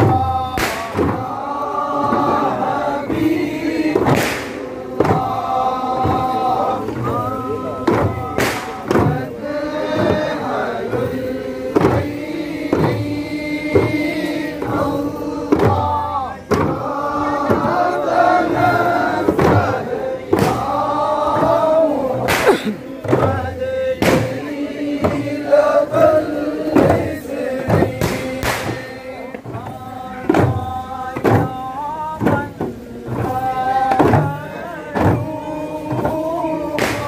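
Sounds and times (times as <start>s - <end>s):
frame drums struck in unison: 0.0s - 37.0s
men chanting together: 0.0s - 37.0s.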